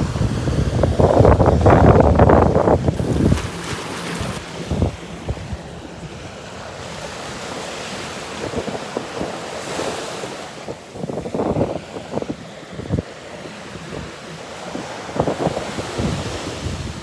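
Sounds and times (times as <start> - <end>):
ocean surf washing on beach: 0.0 - 17.0
wind gusting on microphone: 0.0 - 17.0.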